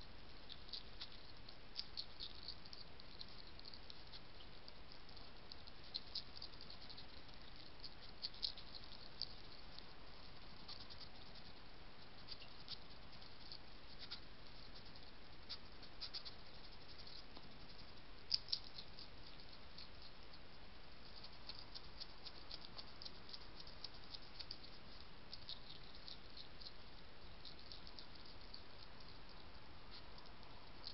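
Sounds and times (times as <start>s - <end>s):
faint steady hiss: 0.0s - 30.9s
hedgehog chewing crunching clicks: 0.2s - 30.9s.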